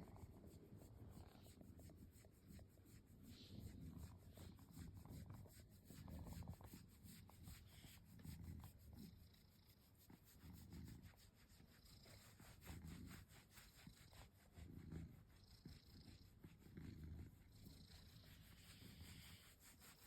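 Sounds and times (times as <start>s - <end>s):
cat purring: 0.0s - 20.0s
fingers scratching fur: 0.0s - 20.0s.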